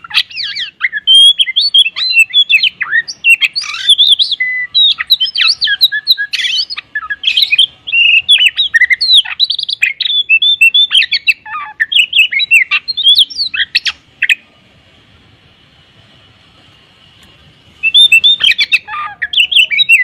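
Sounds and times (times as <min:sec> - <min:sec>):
songbird singing whistles: 0:00.0 - 0:14.5, 0:17.7 - 0:20.0.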